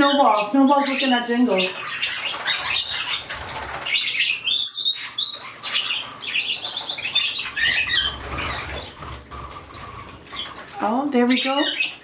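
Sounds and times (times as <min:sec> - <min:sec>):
birds chirping and chattering: 0:00.0 - 0:12.0.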